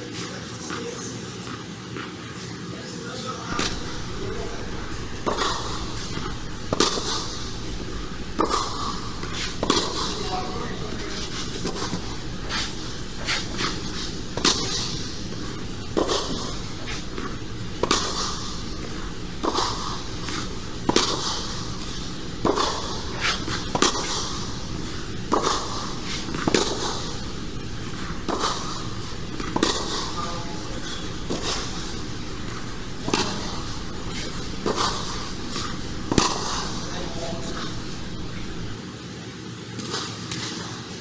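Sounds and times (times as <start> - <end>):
steady background noise: 0.0 - 41.0
tennis ball struck with rackets: 3.5 - 38.8.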